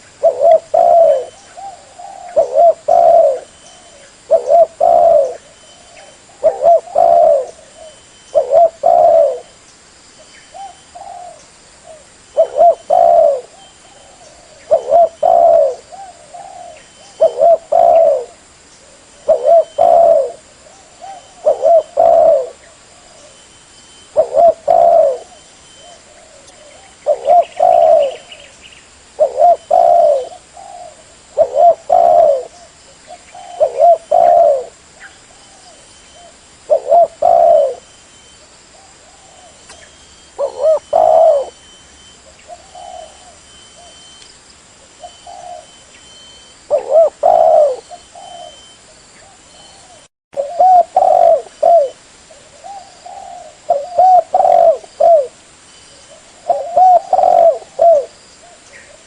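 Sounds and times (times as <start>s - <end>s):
dove cooing: 0.0s - 9.6s, 10.5s - 28.5s, 29.1s - 44.2s, 44.8s - 59.0s.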